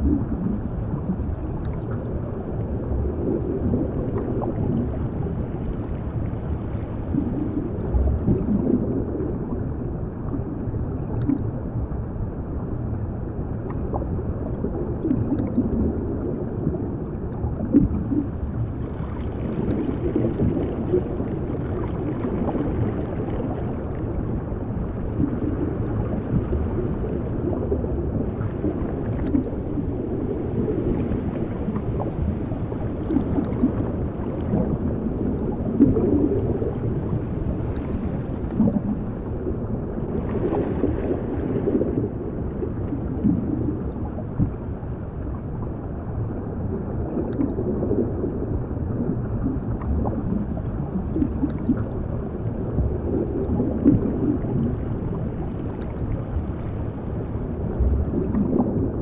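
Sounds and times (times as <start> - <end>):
gurgling water and bubbles: 0.0 - 59.0
muffled underwater rumble: 0.0 - 59.0.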